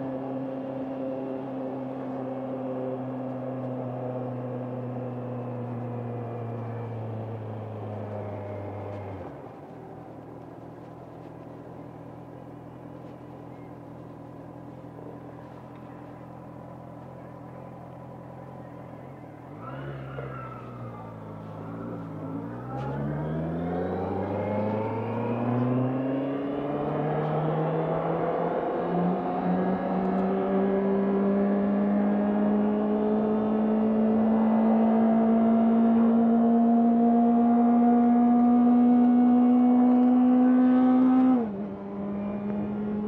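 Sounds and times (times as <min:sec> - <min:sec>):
motorcycle engine: 0:00.0 - 0:43.0.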